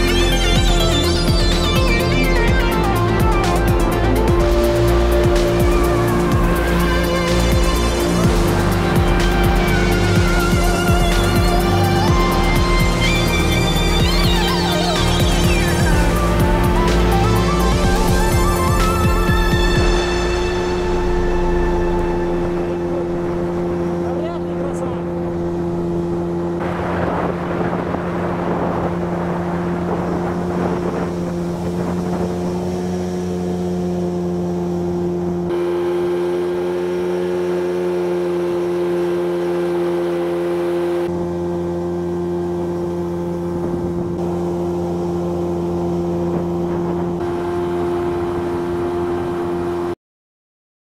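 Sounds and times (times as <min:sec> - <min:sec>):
outboard motor running: 0:00.0 - 0:50.0
water rushing under hull: 0:00.0 - 0:50.0.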